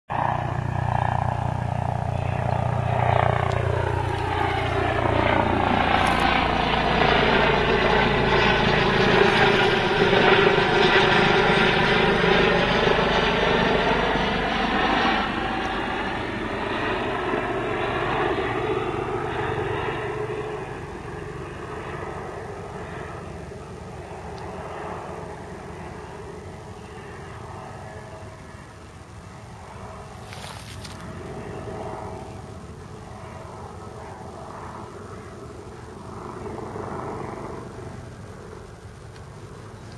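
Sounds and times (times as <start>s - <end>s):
helicopter flying overhead: 0.1s - 39.9s.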